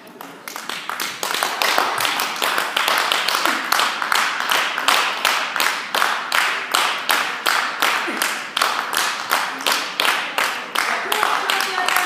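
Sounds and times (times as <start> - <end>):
group clapping in rhythm: 0.0 - 12.0.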